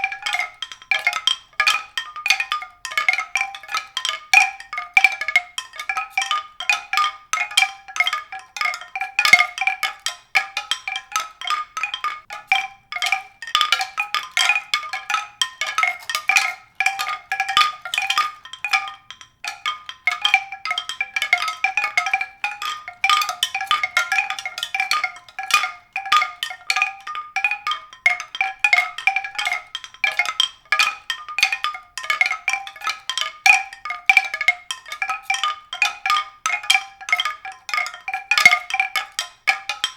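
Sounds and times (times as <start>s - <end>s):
tuned percussion notes: 0.0s - 39.9s.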